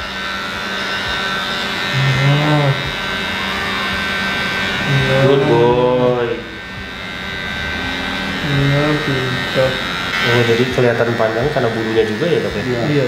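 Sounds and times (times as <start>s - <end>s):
electric clippers buzzing: 0.0s - 13.0s.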